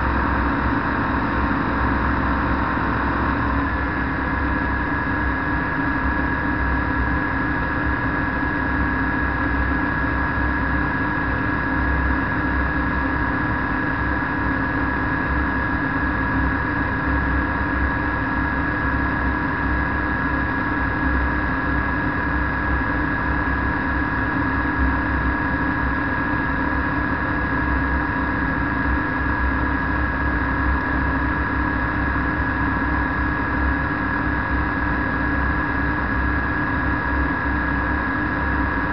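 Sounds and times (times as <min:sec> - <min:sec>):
microlight engine drone: 0:00.0 - 0:38.9.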